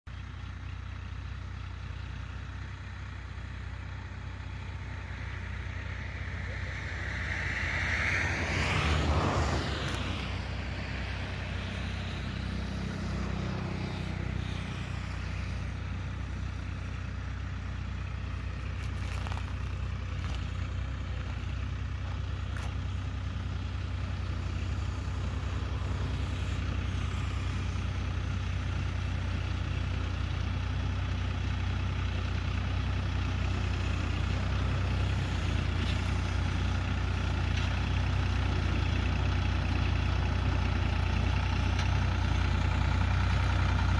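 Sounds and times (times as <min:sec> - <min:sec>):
tractor diesel engine running: 0:00.1 - 0:43.9.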